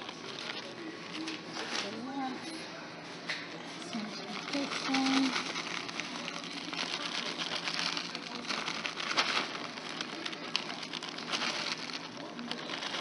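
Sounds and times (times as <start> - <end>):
cheese shreds pattering: 0.0 - 2.4, 3.7 - 13.0
plastic bag crinkling: 0.0 - 2.4, 3.8 - 13.0.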